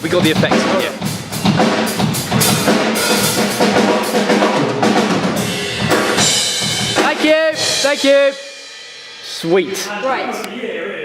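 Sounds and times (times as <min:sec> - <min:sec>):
drum kit groove: 0:00.0 - 0:10.4.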